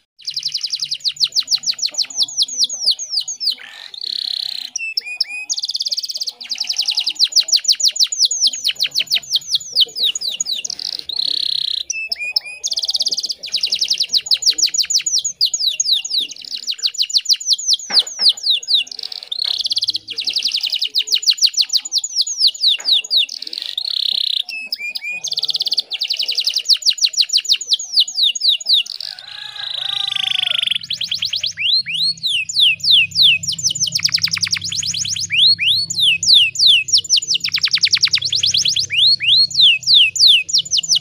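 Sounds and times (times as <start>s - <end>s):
canary singing trills: 0.0s - 41.0s.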